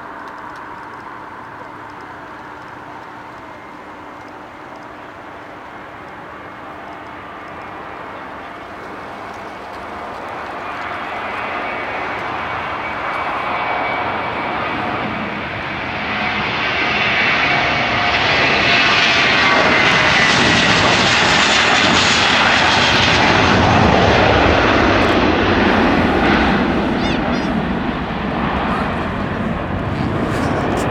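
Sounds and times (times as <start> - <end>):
jet engines at takeoff: 0.0 - 30.9.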